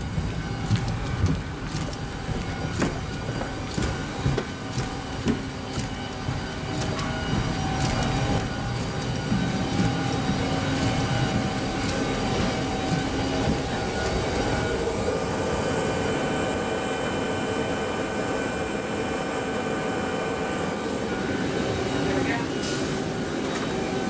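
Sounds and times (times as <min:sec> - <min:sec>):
aircraft machinery whine and rumble: 0:00.0 - 0:24.0.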